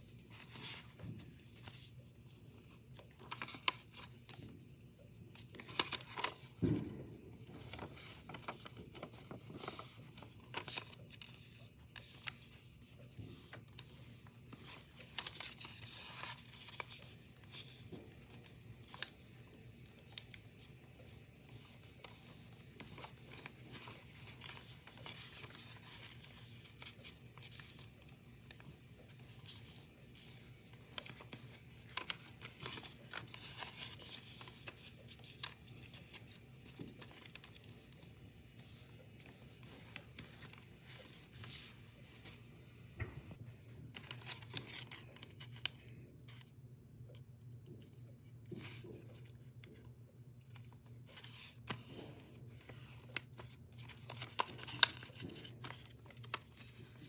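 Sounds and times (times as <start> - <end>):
paper rustling and crinkling: 0.0 - 42.4, 43.6 - 46.5, 47.1 - 57.0.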